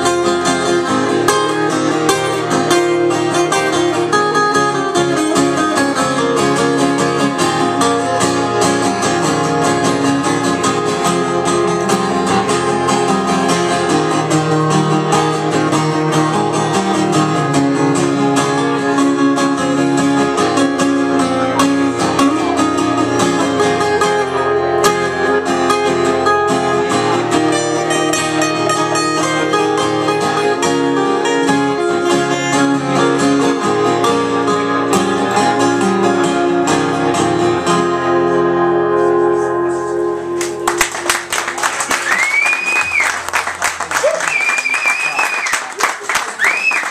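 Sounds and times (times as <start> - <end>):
string band playing: 0.0 - 42.4.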